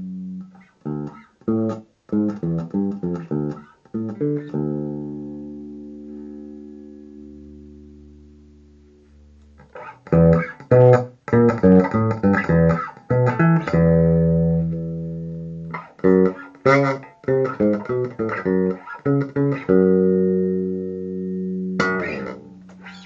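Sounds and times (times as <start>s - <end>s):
electric bass plucked notes: 0.0s - 23.0s.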